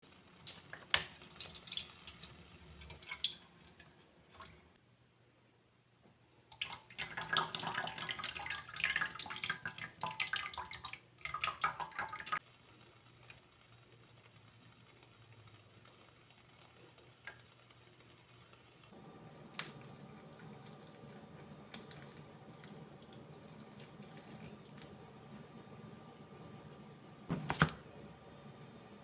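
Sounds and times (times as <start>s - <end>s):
liquid dripping and bubbling: 0.1s - 4.8s, 6.5s - 28.0s.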